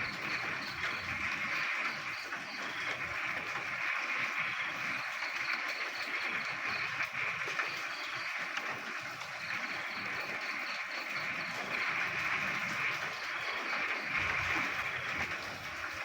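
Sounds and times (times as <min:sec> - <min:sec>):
rapid pulsed frog call: 0:00.0 - 0:15.9
frogs croaking in chorus: 0:00.0 - 0:16.0
rain: 0:00.0 - 0:16.0.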